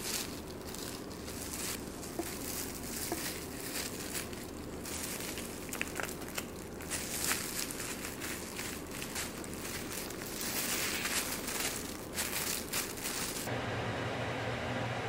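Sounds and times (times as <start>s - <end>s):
plastic glove crinkling: 0.0s - 13.5s.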